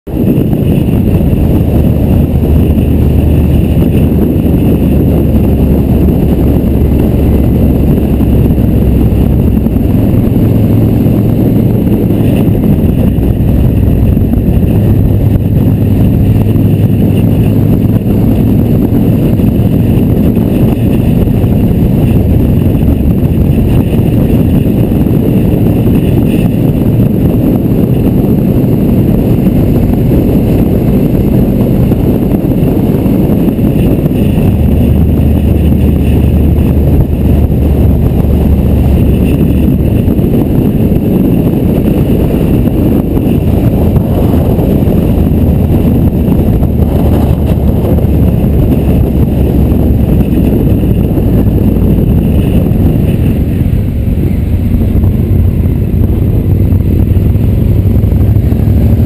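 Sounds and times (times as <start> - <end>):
motorcycle engine drone: 0.0 - 59.0
wind and road noise: 0.0 - 59.0.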